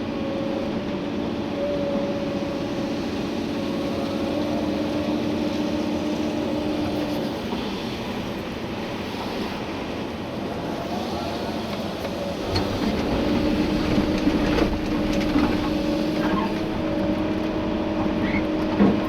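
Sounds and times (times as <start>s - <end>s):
excavator engine and hydraulics: 0.0s - 19.0s.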